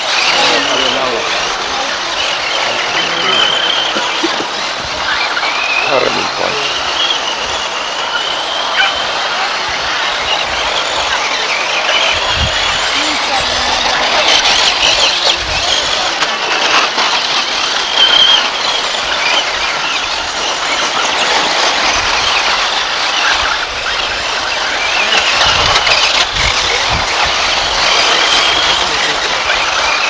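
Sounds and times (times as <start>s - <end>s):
constant rushing noise: 0.0s - 30.0s
electric motors whining: 0.0s - 30.0s.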